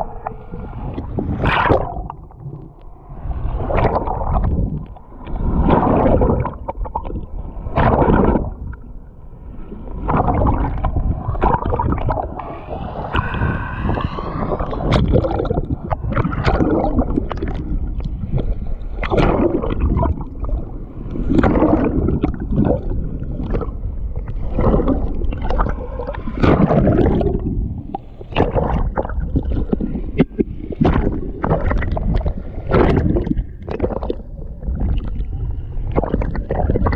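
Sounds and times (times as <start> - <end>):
muffled river water gurgling: 0.0 - 36.9.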